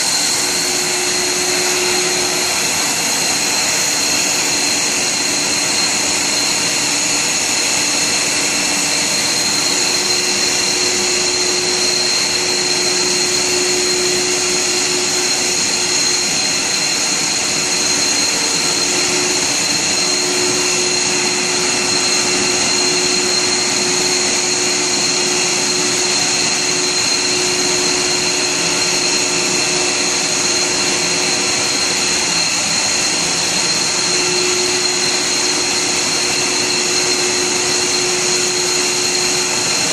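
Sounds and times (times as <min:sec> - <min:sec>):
high whining tones: 0:00.0 - 0:39.9
motors and pumps whirring: 0:00.0 - 0:39.9.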